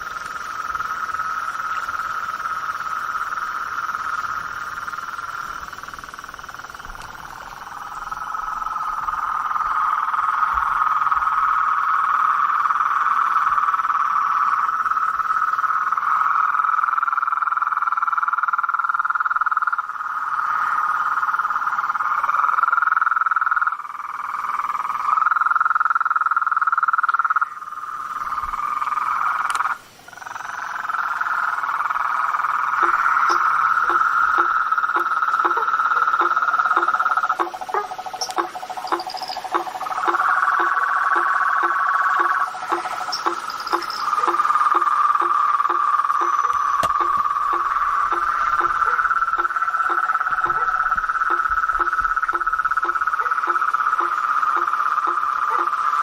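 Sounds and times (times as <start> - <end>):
frogs calling in chorus: 0.0 - 56.0.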